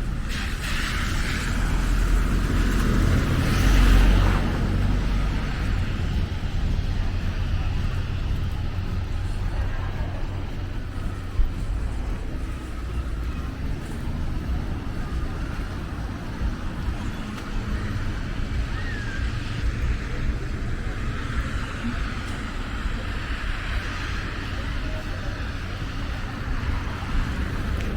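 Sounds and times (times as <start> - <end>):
street rumble: 0.0 - 27.9.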